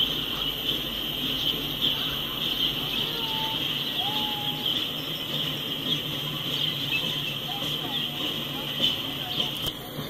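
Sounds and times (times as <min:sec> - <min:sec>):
freight train rolling past: 0:00.0 - 0:10.0
high hiss: 0:00.0 - 0:10.0.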